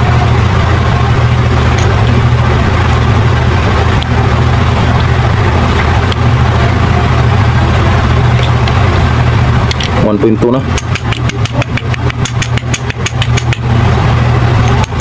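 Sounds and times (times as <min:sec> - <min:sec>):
engine idling drone: 0:00.0 - 0:15.0.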